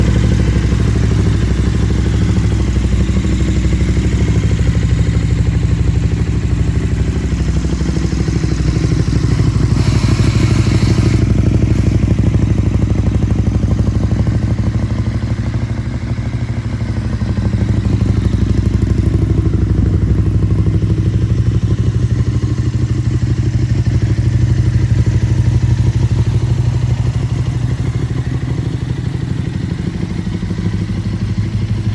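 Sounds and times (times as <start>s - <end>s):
motorcycle engine pulsing: 0.0s - 31.9s.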